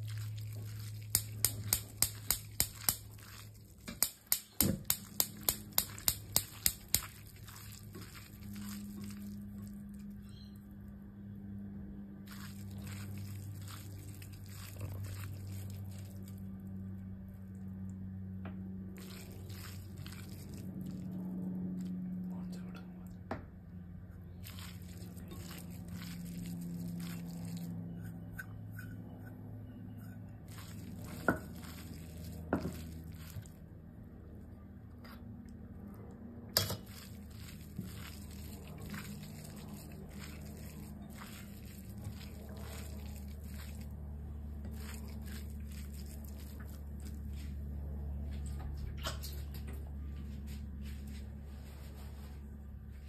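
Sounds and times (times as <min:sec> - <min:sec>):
hand squishing food in a dish: 0:00.0 - 0:10.6, 0:12.2 - 0:23.3, 0:24.0 - 0:28.8, 0:29.7 - 0:33.8, 0:36.6 - 0:49.7
steady low hum: 0:00.0 - 0:53.0.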